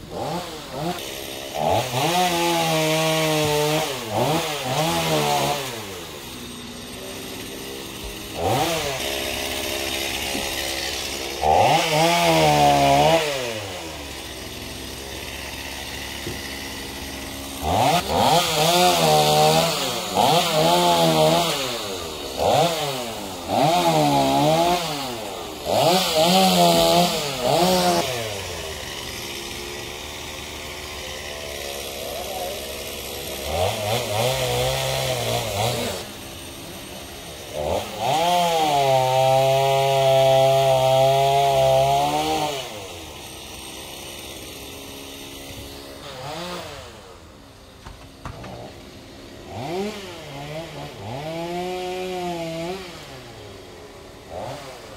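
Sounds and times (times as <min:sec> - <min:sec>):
chainsaw revving and cutting wood: 0:00.0 - 0:54.9.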